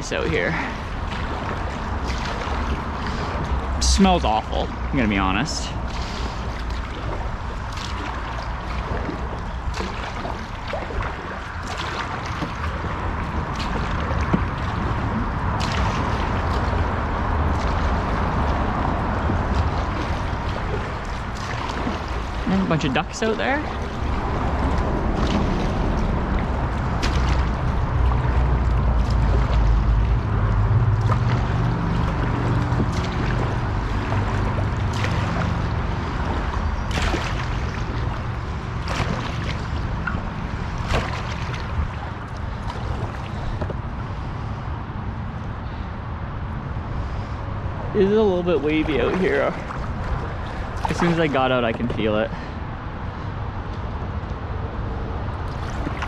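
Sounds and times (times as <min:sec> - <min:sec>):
kayak paddle splashing: 0:00.0 - 0:45.9, 0:46.8 - 0:53.7, 0:55.0 - 0:56.0
steady low rumble: 0:00.0 - 0:56.0
water sloshing against hull: 0:00.0 - 0:56.0.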